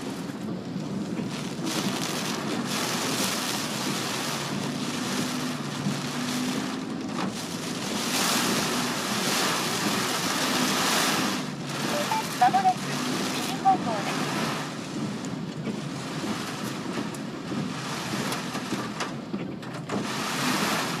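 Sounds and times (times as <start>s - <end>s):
car engine and road hum: 0.0s - 21.0s
strong wind buffeting a car: 0.0s - 21.0s.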